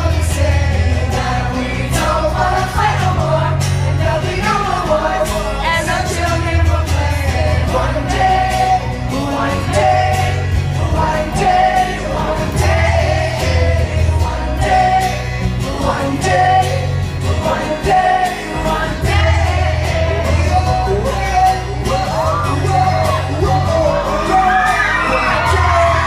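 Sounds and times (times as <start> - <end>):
live pop band with singer: 0.0 - 26.0.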